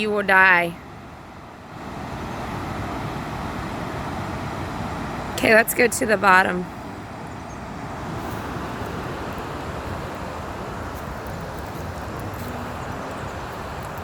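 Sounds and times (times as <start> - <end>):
waterfall rushing: 1.1 - 14.0.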